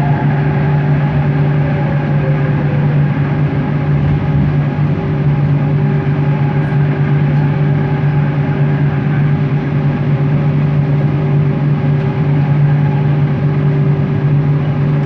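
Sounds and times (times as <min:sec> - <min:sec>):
train hum: 0:00.0 - 0:15.0
train rolling on track: 0:00.0 - 0:15.0.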